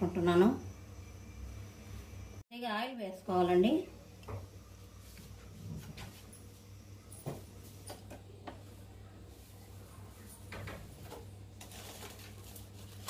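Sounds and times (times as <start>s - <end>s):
gas burner hum: 0.0s - 2.4s, 3.0s - 13.0s.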